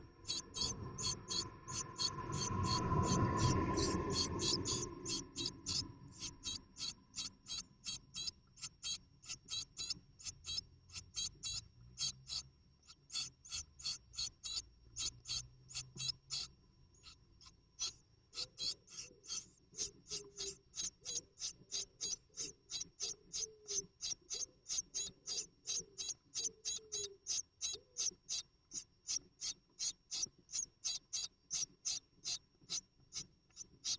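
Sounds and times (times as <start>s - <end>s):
great tits rasping calls: 0.0s - 12.4s, 13.1s - 33.9s.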